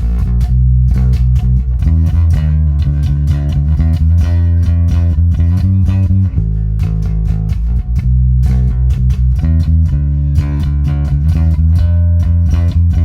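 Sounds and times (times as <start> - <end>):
electric bass plucked notes: 0.0 - 13.0.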